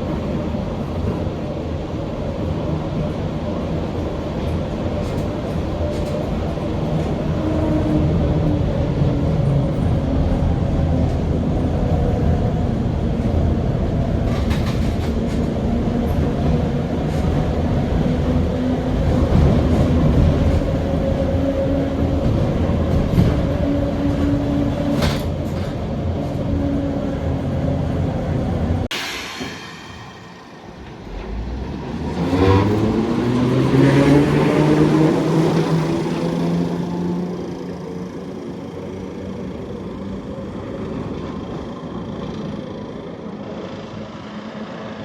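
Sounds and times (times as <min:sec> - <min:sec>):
tram rumbling on rails: 0:00.0 - 0:45.0.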